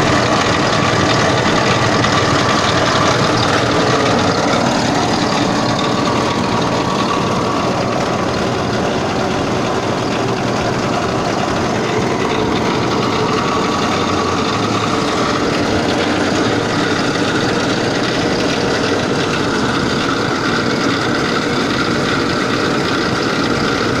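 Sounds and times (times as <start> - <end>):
chopper machine running: 0.0 - 24.0.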